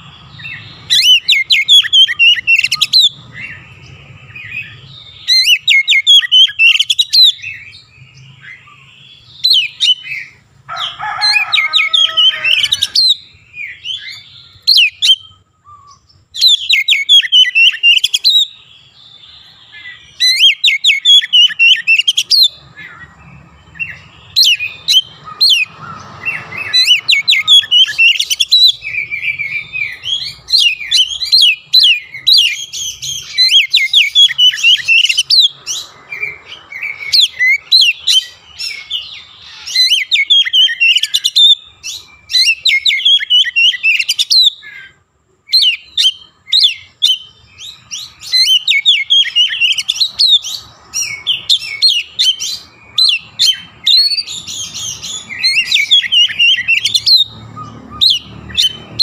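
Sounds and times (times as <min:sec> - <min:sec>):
magpie-robin singing: 0:00.0 - 0:10.5, 0:11.1 - 0:59.0
mimicked myna calls: 0:00.0 - 0:59.0.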